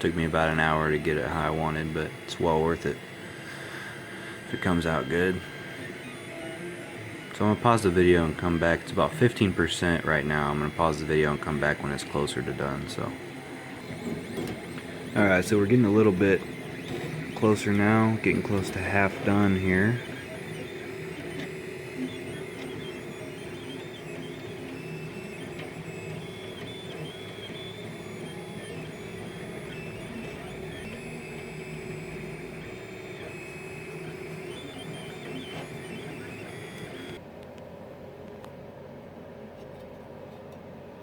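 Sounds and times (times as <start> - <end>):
stepper motors whining: 0.0 - 37.2
steady mechanical hum: 0.0 - 41.0.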